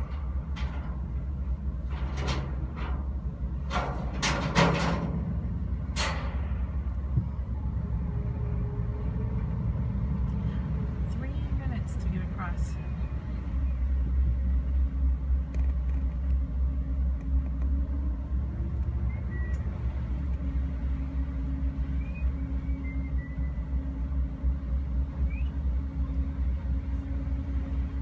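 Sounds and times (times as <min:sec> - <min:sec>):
ferry engines rumbling and humming: 0:00.0 - 0:28.0.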